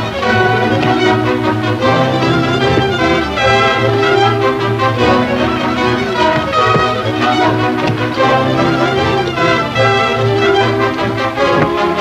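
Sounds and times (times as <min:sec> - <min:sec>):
orchestral music with strings and brass: 0:00.0 - 0:12.0.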